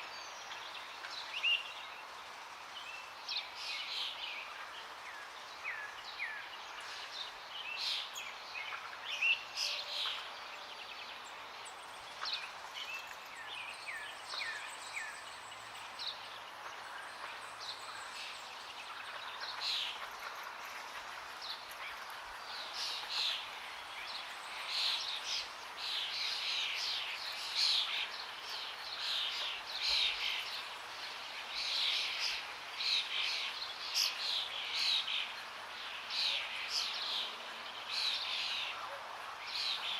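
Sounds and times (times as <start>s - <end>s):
running water hiss: 0.0s - 39.9s
small birds chirping: 0.0s - 39.9s.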